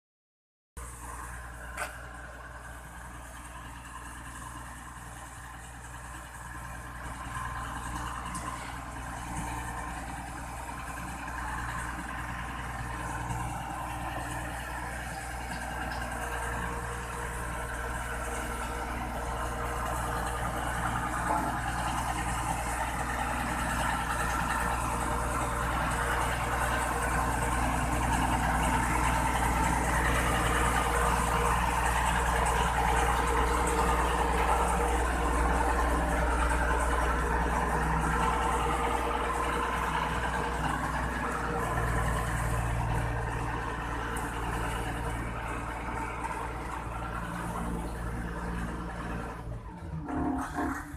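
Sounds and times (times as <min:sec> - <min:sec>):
road roller diesel engine running: 0:00.8 - 0:50.9.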